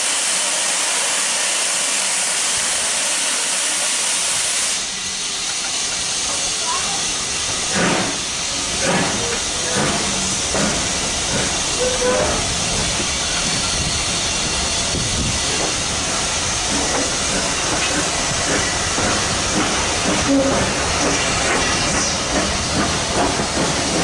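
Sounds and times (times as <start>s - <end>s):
coaches running on rails: 0.0s - 24.0s
steam locomotive hissing: 0.0s - 24.0s.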